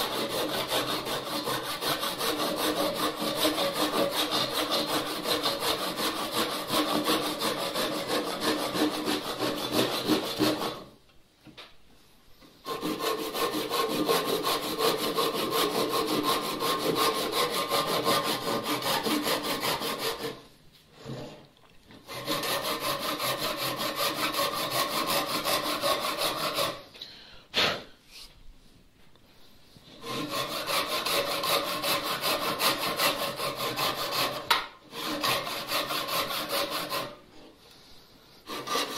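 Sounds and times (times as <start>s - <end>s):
hand saw cutting wood: 0.0s - 11.0s, 12.6s - 26.9s, 29.8s - 37.5s, 38.4s - 38.9s.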